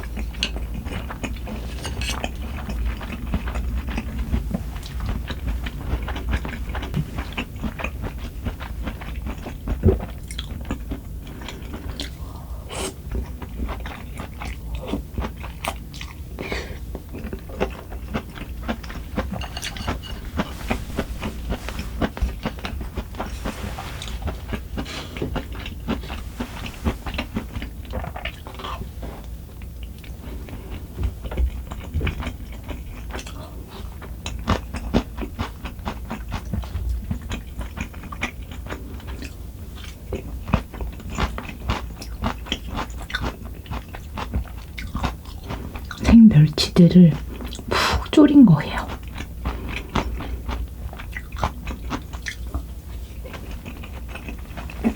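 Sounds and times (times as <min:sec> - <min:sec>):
person chewing food: 0:00.0 - 0:46.1, 0:47.2 - 0:48.1, 0:48.9 - 0:54.9.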